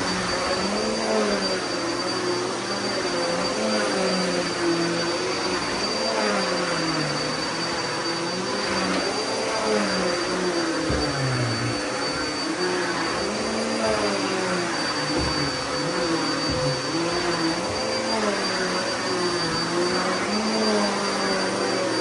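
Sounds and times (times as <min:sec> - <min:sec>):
vacuum cleaner running on carpet: 0:00.0 - 0:22.0.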